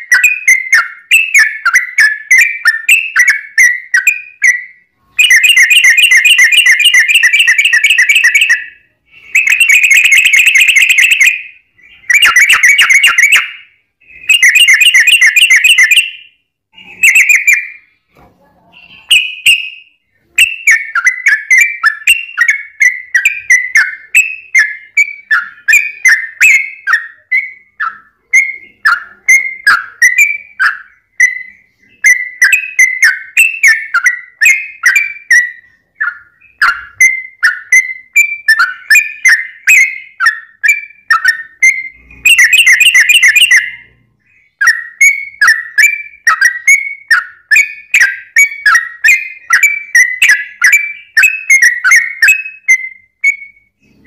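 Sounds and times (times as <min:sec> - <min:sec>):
bird trilling: 0:00.0 - 0:18.0, 0:18.7 - 0:54.0.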